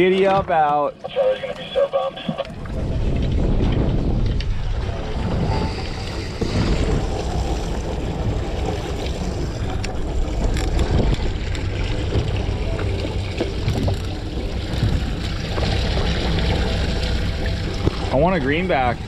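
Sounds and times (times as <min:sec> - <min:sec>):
water washing against boat hull: 0:02.0 - 0:19.0
wind buffeting microphone: 0:02.6 - 0:19.0.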